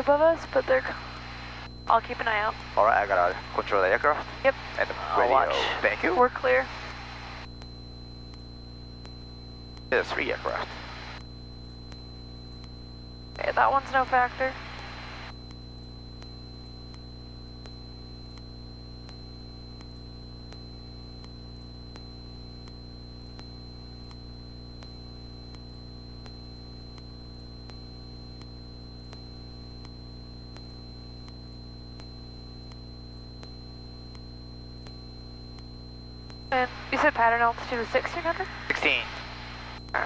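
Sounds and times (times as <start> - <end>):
thin high whine: 0.5 - 40.0
faint regular ticking: 6.1 - 10.0, 10.8 - 40.0.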